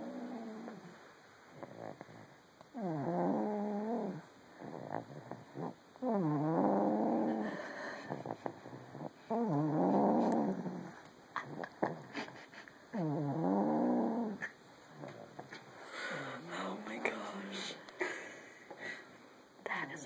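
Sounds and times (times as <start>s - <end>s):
droning snores: 0.0s - 16.7s.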